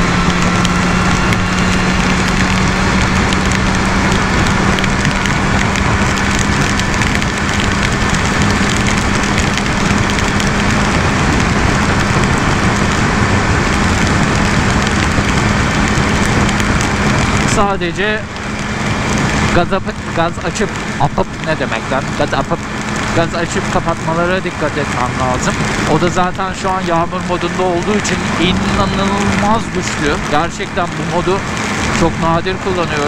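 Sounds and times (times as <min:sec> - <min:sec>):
motorcycle engine steady low note: 0:00.0 - 0:18.5, 0:19.4 - 0:33.0
rain and wind noise: 0:00.0 - 0:33.0.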